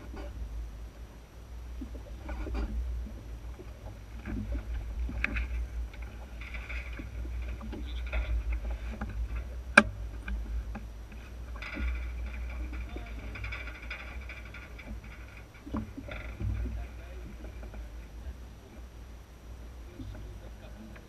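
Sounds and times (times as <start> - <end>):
water rushing along a boat hull: 0.0 - 21.0
wind rumble on microphone: 0.0 - 21.0.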